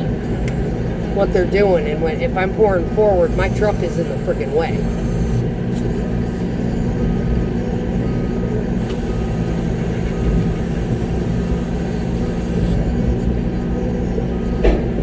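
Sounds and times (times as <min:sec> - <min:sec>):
diesel engine running: 0:00.0 - 0:15.0
faint backup alarm beeping: 0:00.0 - 0:15.0.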